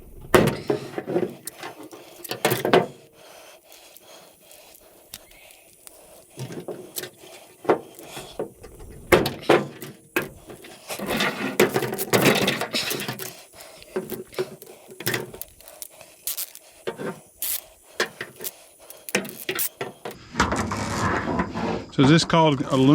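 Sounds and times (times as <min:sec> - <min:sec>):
metal cable clicking and scraping: 0:00.3 - 0:20.2.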